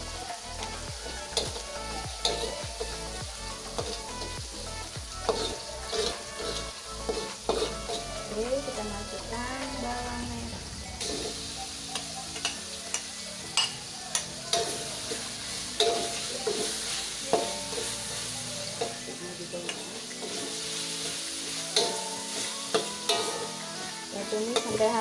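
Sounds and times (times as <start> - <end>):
spatula scraping metal wok: 0.0 - 25.0
spices sizzling in hot oil: 0.0 - 25.0.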